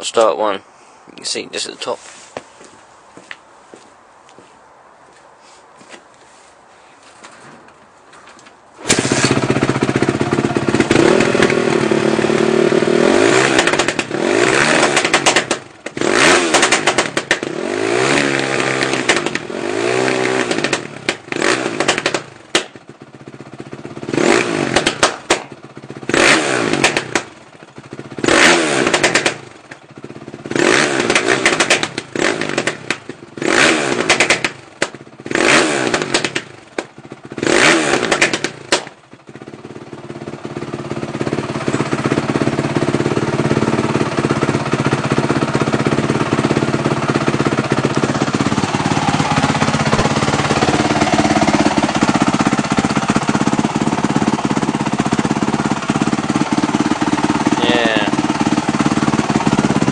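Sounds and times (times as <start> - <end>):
engine pops and crackles: 7.2 - 12.7, 13.3 - 17.6, 18.3 - 39.8, 40.4 - 59.9
motorcycle engine revving: 8.8 - 59.9.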